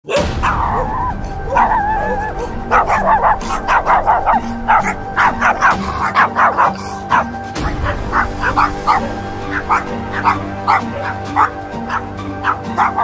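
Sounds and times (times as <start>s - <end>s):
background music: 0.0s - 13.0s
small dogs whining: 0.1s - 13.0s
small dogs yapping: 0.1s - 13.0s.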